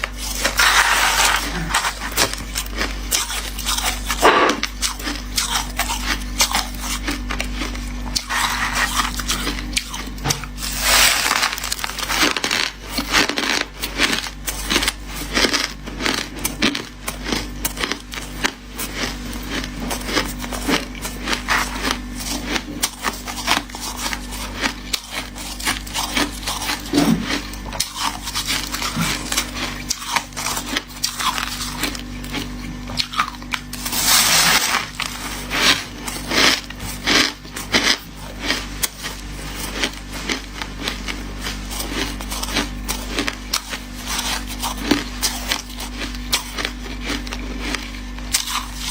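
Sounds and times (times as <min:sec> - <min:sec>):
crunching ice being chewed: 0:00.0 - 0:48.9.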